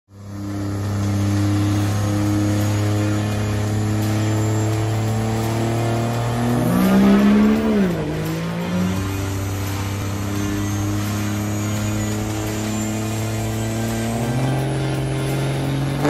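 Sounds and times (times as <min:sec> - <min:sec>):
engine revving: 0:00.1 - 0:16.0.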